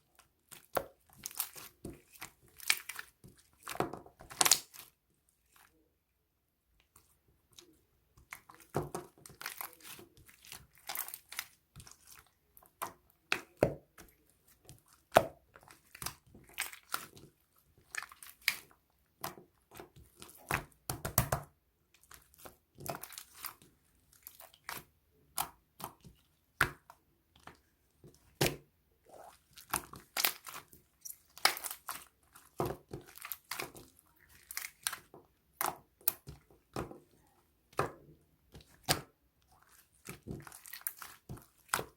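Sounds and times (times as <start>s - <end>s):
slime crackling and squelching: 0.0s - 5.8s, 6.9s - 21.3s, 21.9s - 41.9s.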